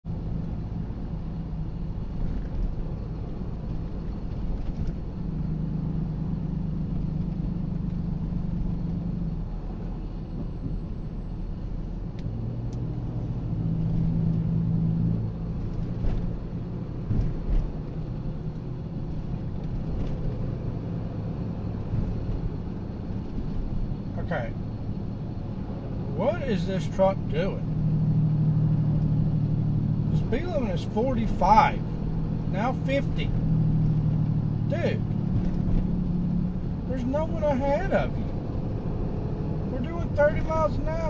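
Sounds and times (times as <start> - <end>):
car engine hum: 0.0 - 41.0
road rumble: 0.0 - 41.0.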